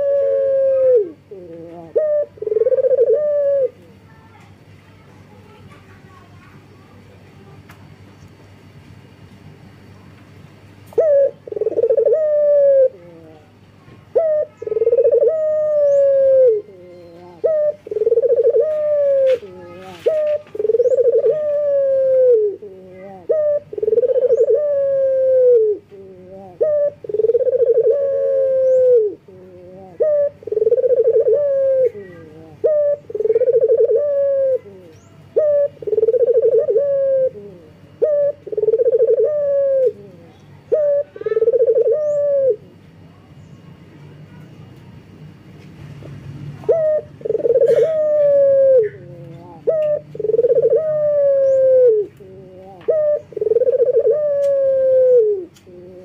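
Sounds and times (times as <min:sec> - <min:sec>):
dove cooing: 0:00.0 - 0:04.0, 0:10.8 - 0:43.4, 0:46.5 - 0:56.0.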